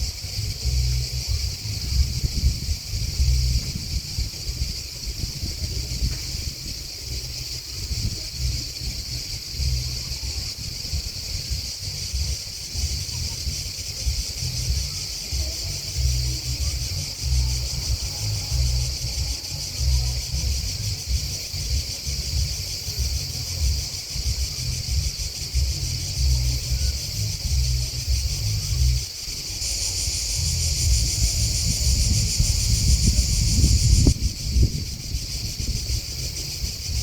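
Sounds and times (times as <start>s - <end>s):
grasshoppers and crickets chirping: 0.0s - 37.0s
wind rumble on microphone: 0.0s - 37.0s.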